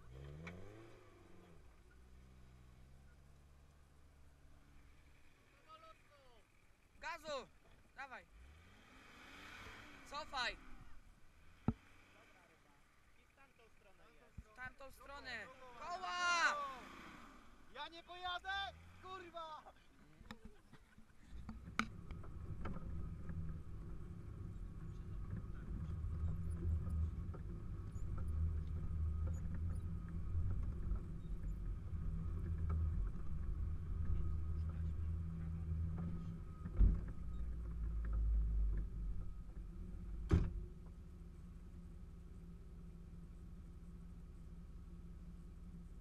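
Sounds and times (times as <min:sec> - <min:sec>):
off-road vehicle engine rumbling: 0:00.0 - 0:46.0.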